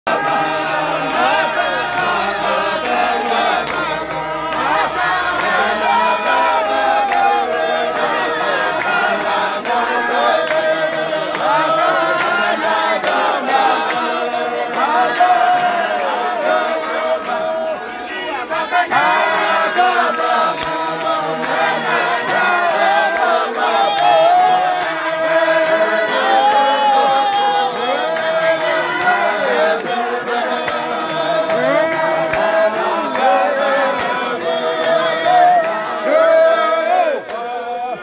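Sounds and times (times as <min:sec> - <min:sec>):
men singing a cappella: 0:00.1 - 0:38.0.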